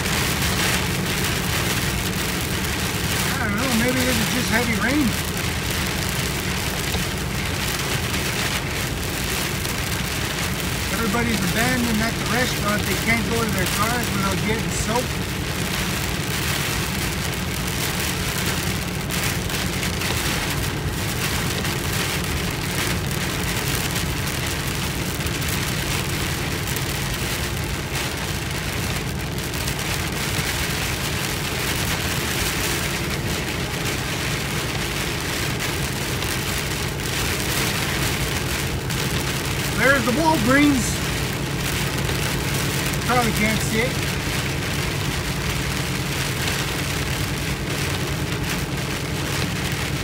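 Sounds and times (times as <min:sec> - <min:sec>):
car low hum: 0:00.0 - 0:50.0
heavy rain on car roof: 0:00.0 - 0:50.0.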